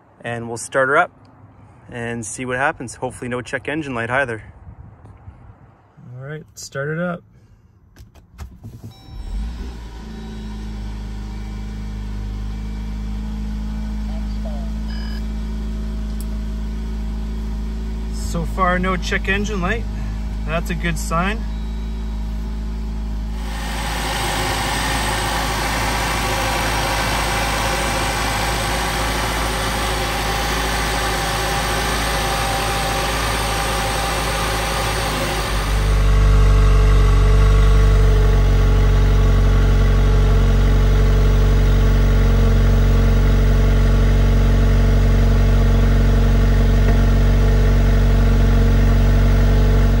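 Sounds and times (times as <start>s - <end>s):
deep exhaust note: 9.1s - 50.0s
engine idling with intake hiss: 9.2s - 50.0s.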